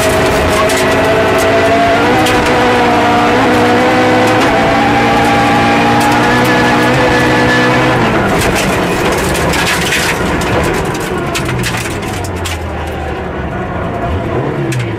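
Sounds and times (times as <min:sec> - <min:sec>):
gravel ticking against car: 0:00.0 - 0:13.1
rally car engine: 0:00.0 - 0:14.9
road noise: 0:00.0 - 0:14.9.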